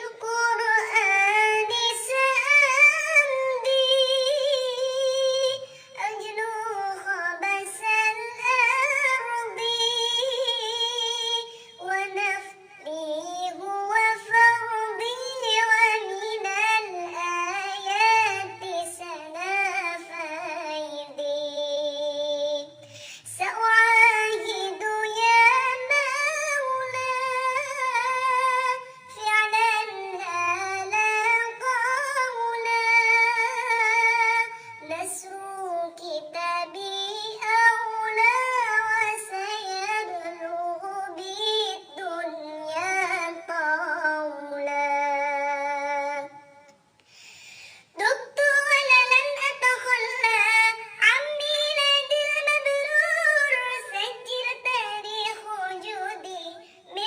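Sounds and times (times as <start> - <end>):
child-like voice singing: 0.0 - 46.5, 48.0 - 57.0.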